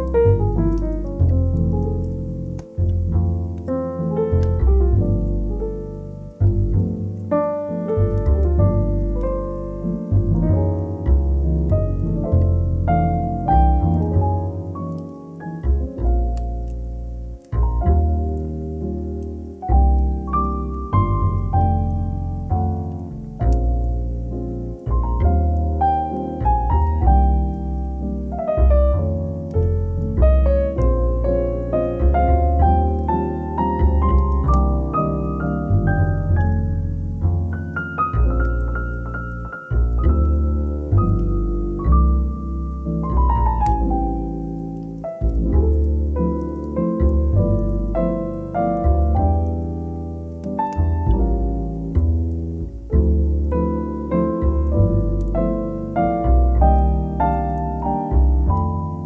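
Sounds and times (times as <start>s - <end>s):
slow piano music: 0.0s - 59.0s.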